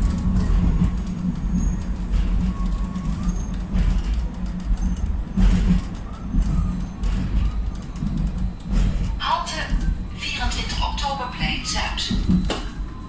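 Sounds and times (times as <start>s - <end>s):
constant low hum: 0.0s - 13.0s
wheels rumbling on rails: 0.0s - 13.0s.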